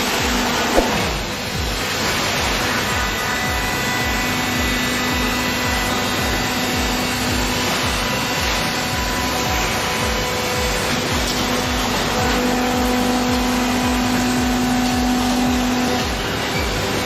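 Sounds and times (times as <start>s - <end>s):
heavy machinery running: 0.0s - 17.0s
steady hum: 0.0s - 17.0s.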